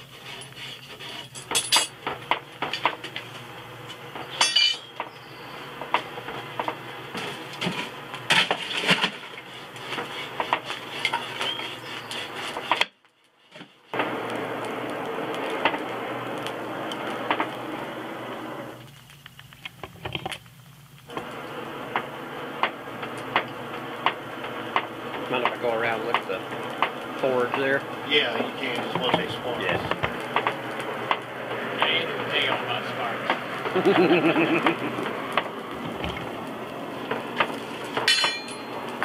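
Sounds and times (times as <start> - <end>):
fire crackling: 0.0 - 39.0
rush of air and fire: 0.0 - 39.0.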